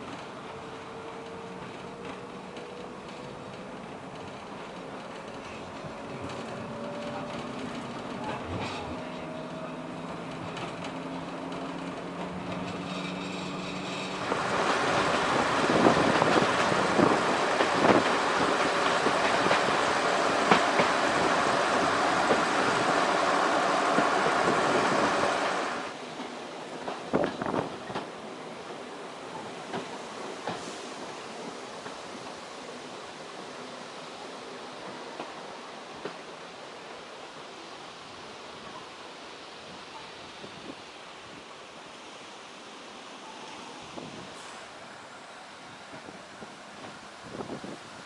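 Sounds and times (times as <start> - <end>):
train passing: 0.0 - 48.0.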